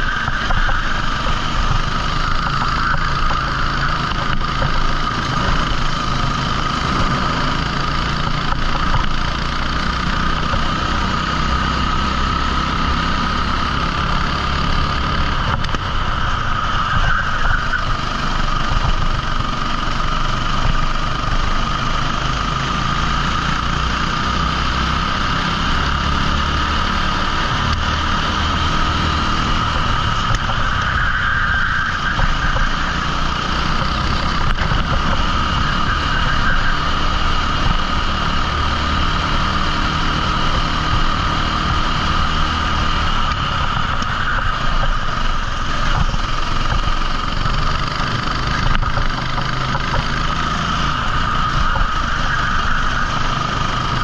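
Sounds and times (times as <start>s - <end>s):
kart engine running: 0.0s - 54.0s.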